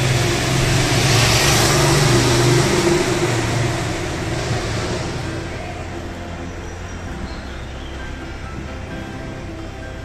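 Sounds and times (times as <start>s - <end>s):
motorcycle engine running: 0.0s - 9.9s
background music: 0.0s - 10.0s.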